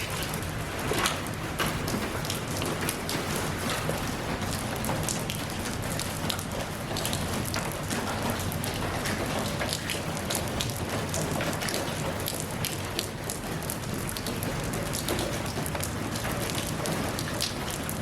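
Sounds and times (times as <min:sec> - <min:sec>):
raindrops pattering close by: 0:00.0 - 0:18.0
steady rain falling: 0:00.0 - 0:18.0.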